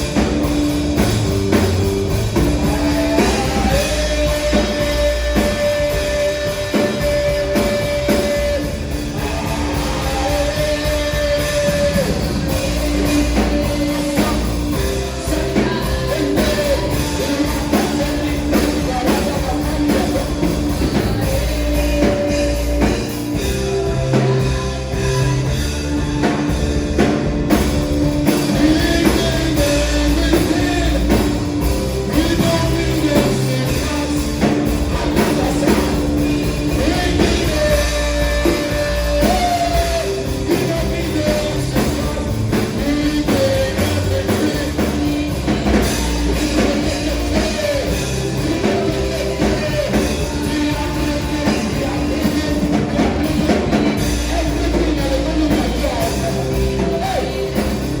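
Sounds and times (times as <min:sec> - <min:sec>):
bass: 0:00.0 - 0:58.0
drums: 0:00.0 - 0:58.0
guitar: 0:00.0 - 0:58.0
voices singing: 0:00.0 - 0:58.0.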